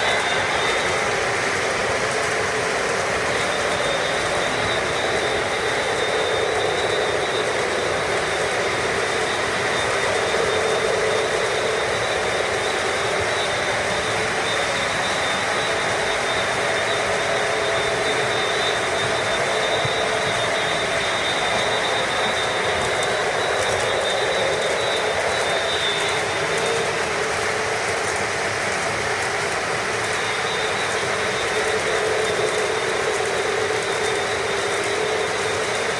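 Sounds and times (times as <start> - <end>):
electric motors whirring: 0.0 - 35.9
model train wheels rumbling: 0.0 - 35.9
thin high whine: 0.0 - 35.9.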